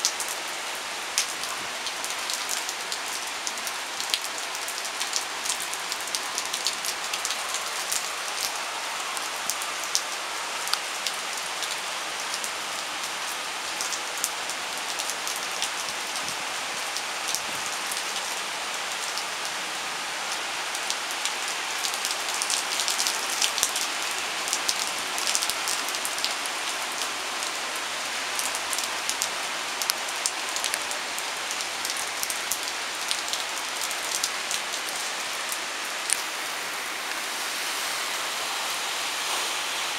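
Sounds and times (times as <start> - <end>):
heavy rain hiss: 0.0 - 39.9
raindrops ticking on a surface: 1.1 - 19.6, 20.3 - 36.4.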